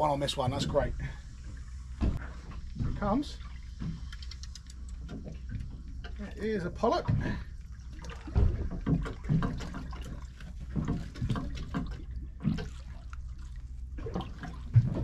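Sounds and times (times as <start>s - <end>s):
low steady hum: 0.0s - 15.0s
water splashing against boat hull: 0.0s - 15.0s.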